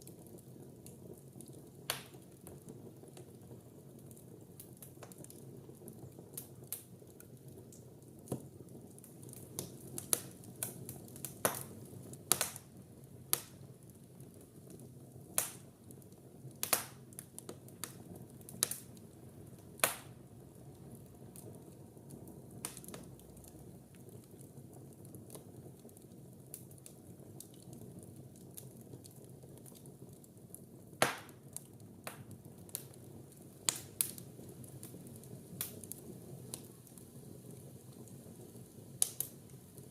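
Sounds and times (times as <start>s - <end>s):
burning wood crackling and popping: 0.0s - 39.9s
fire flame rumble: 0.0s - 39.9s.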